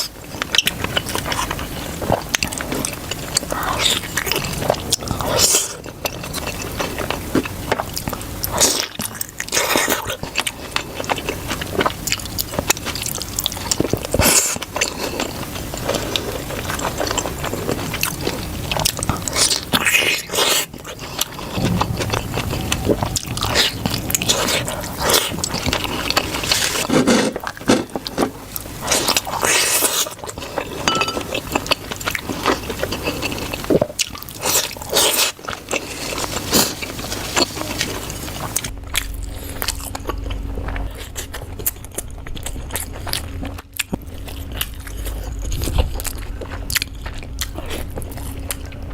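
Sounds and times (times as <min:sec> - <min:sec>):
biting and wet chewing: 0:00.0 - 0:48.9
crackly mouth sounds: 0:00.0 - 0:48.9.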